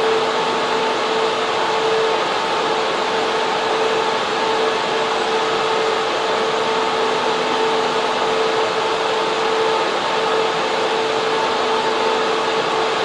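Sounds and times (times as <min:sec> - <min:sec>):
constant high whine: 0:00.0 - 0:13.0
cooling fans rushing air: 0:00.0 - 0:13.0.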